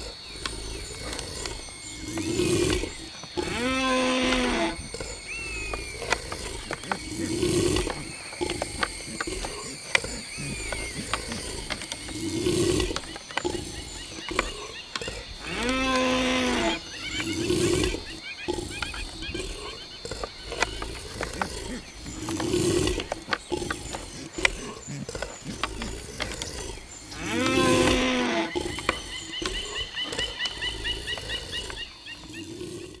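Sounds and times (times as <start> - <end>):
deer stags roaring: 0.0 - 33.0.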